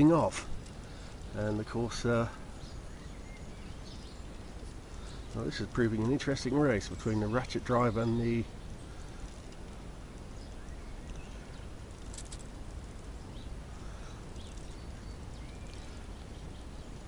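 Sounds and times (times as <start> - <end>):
outdoor background noise: 0.0 - 17.0
faint bird chirps: 0.2 - 17.0.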